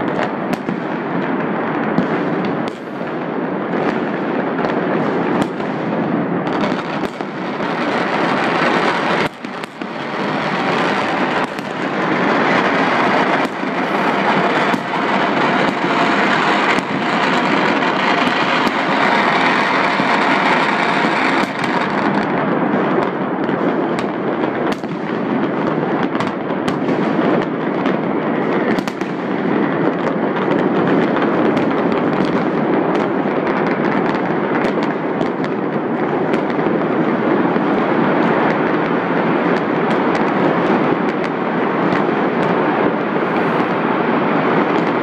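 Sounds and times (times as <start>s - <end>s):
firecrackers crackling: 0.0s - 45.0s
firework bangs: 0.0s - 45.0s.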